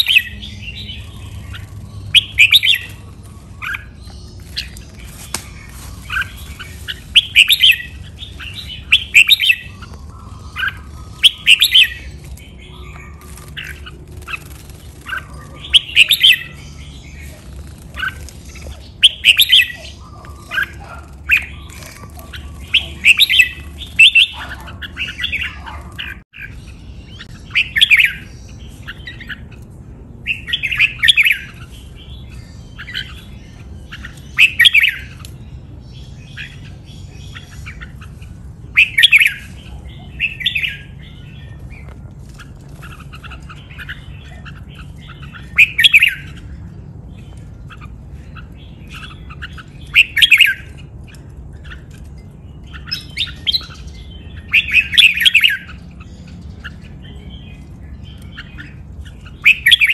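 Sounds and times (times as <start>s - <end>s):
bird chirps: 0.0s - 59.9s
bird song phrases: 0.0s - 59.9s.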